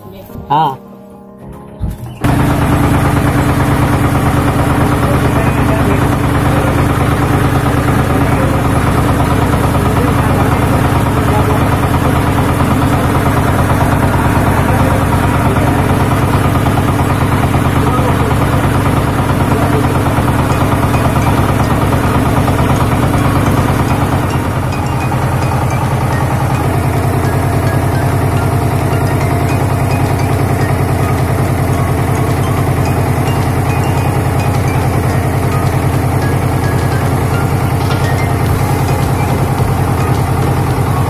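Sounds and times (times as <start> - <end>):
boat engine running: 1.8 - 41.0.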